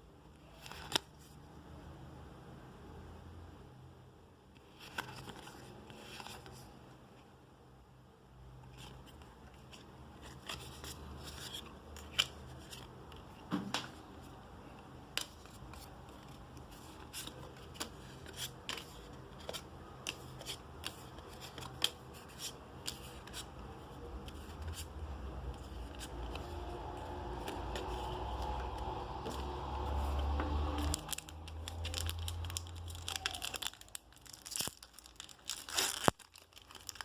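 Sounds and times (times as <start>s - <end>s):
cards rustling: 0.5s - 1.3s, 4.6s - 6.7s, 8.6s - 37.0s.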